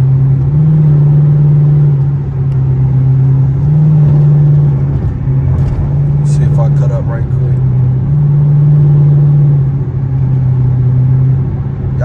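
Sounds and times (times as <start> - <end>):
car exhaust droning inside cabin: 0.0 - 12.0.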